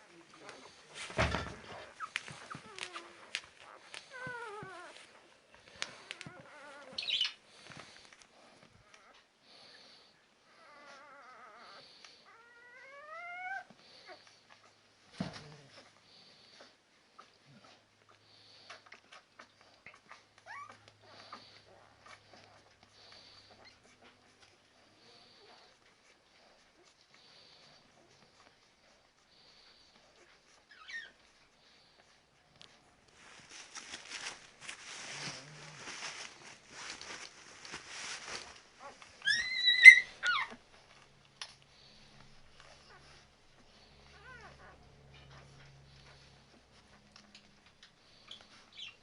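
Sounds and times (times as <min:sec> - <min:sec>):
puppies squeaking and whimpering: 0:00.0 - 0:09.2, 0:09.8 - 0:33.9, 0:38.4 - 0:47.3, 0:47.9 - 0:49.0
soft shuffling and rustling: 0:00.0 - 0:49.0.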